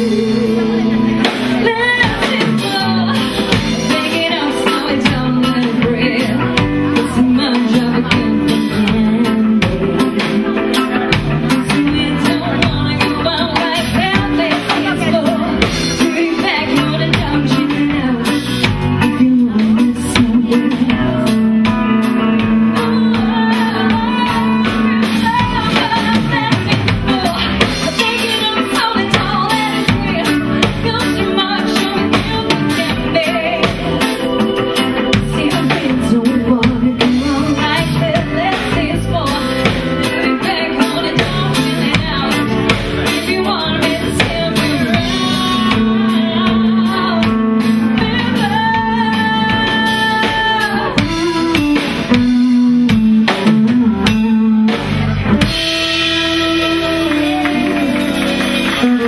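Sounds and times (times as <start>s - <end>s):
drum kit: 0.0s - 59.0s
electric guitar: 0.0s - 59.0s
keyboard playing: 0.0s - 59.0s
woman singing: 0.0s - 59.0s.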